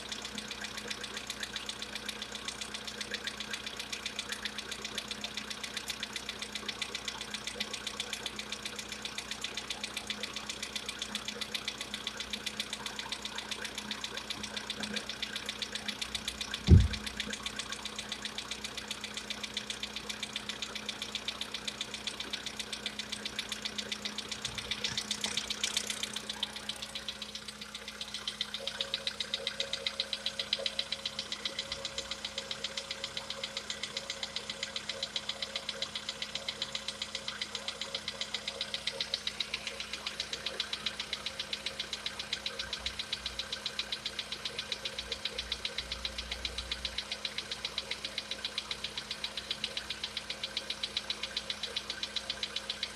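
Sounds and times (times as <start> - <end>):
car engine running: 0.0 - 52.9
engine knocking: 0.0 - 52.9.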